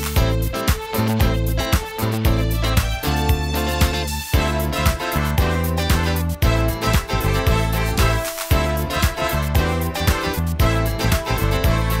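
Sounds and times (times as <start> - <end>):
background music with beat and bass: 0.0 - 12.0.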